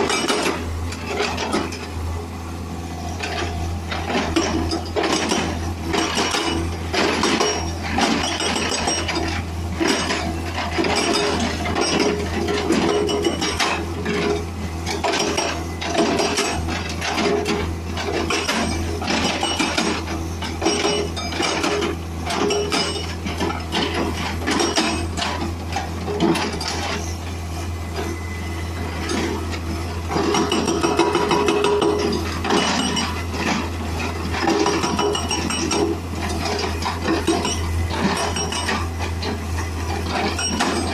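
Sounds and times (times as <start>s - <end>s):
hydraulic breaker hammering rock: 0.0s - 2.0s, 3.2s - 27.4s, 28.0s - 40.9s
excavator engine humming: 0.0s - 40.9s.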